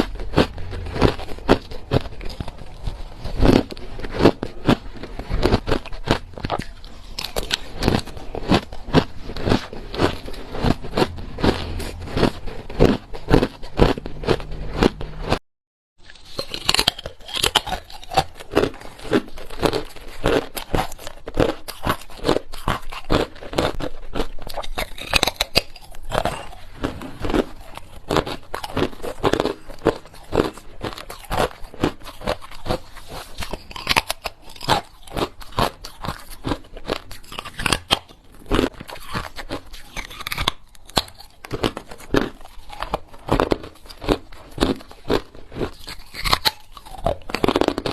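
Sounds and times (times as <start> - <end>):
chewing ice cubes: 0.0 - 15.4, 16.0 - 47.9.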